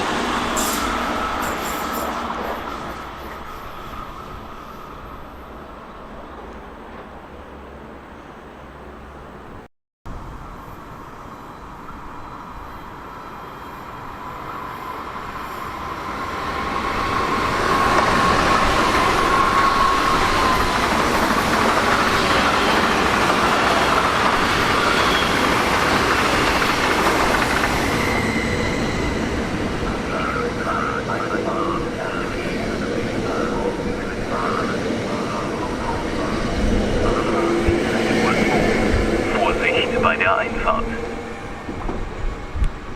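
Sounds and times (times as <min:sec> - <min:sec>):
train running past: 0:00.0 - 0:42.9.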